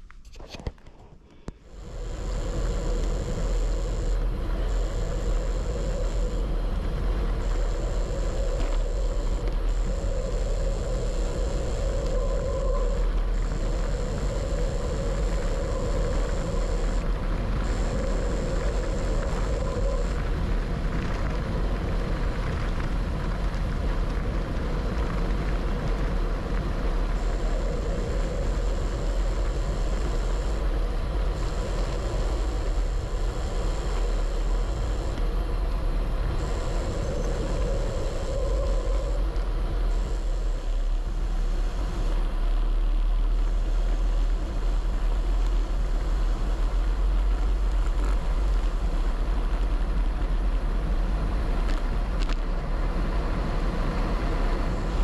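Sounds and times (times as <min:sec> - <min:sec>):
thin high whine: 0:00.0 - 0:48.9
wind rushing over microphone: 0:01.7 - 0:55.0.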